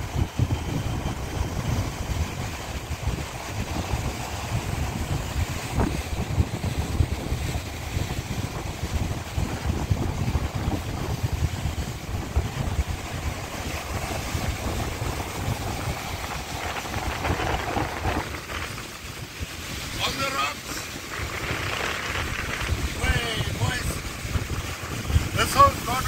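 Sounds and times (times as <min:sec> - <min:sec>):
ocean surf breaking on rocks: 0:00.0 - 0:26.0
wind buffeting microphone: 0:00.0 - 0:26.0.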